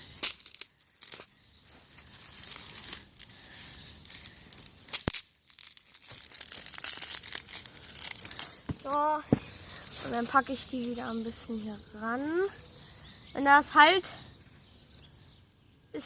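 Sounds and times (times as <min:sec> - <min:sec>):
dry leaves crinkling by hand: 0:00.0 - 0:15.2.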